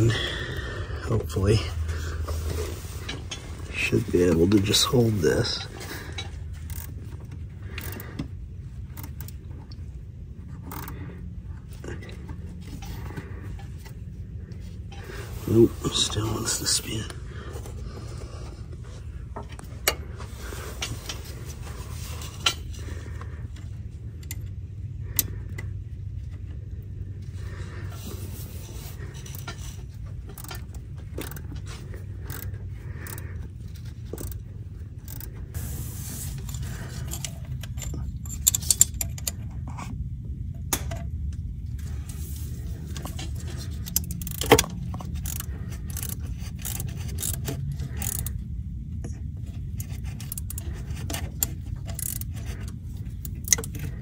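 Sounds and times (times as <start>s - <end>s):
hand tools clicking and scraping: 0.0s - 9.8s, 10.4s - 25.8s, 27.2s - 41.0s, 41.9s - 54.0s
low hum: 0.0s - 54.0s.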